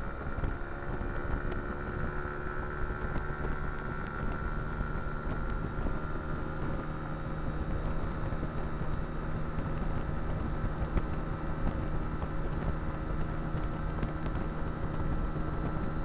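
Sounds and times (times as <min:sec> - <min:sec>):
road rumble: 0:00.0 - 0:16.0
scooter engine droning: 0:00.0 - 0:16.0.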